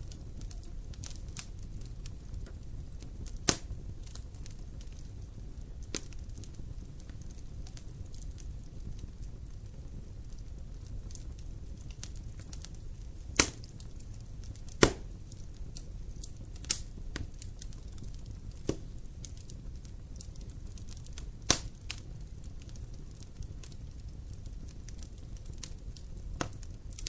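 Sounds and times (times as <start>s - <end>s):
fire crackling and popping: 0.0s - 27.0s
wood fire rumbling: 0.0s - 27.0s.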